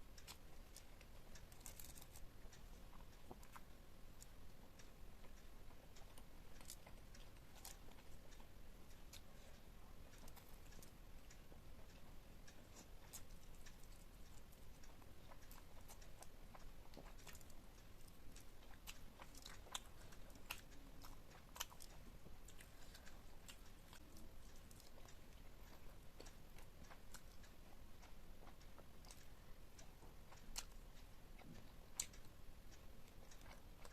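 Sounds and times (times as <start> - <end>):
chewing and biting food: 0.2 - 33.9.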